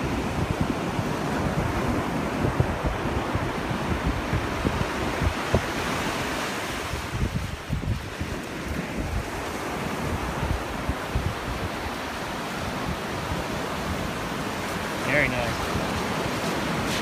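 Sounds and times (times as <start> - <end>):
ocean surf breaking on beach: 0.0 - 17.0
wind buffeting microphone: 0.0 - 17.0.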